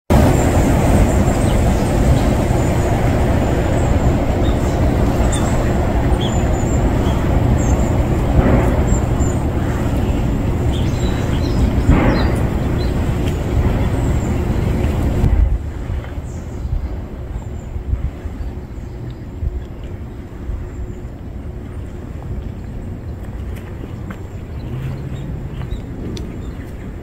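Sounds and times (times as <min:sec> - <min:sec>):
low outdoor rumble: 0:00.1 - 0:27.0.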